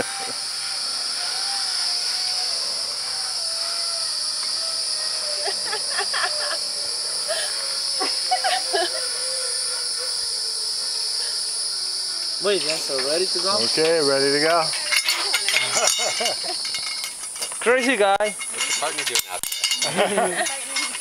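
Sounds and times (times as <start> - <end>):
faint wavering whine: 0.0 - 21.0
insects droning: 0.0 - 21.0.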